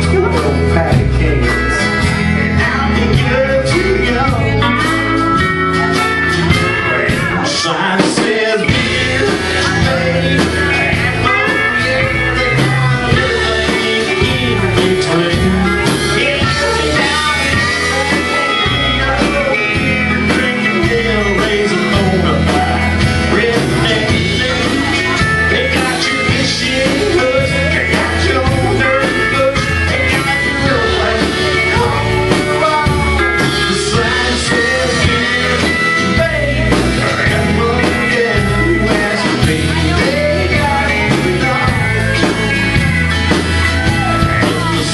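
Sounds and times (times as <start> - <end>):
drums keeping a beat: 0.0 - 44.9
electric bass: 0.0 - 44.9
guitars: 0.0 - 44.9
pedal steel guitar: 0.0 - 44.9.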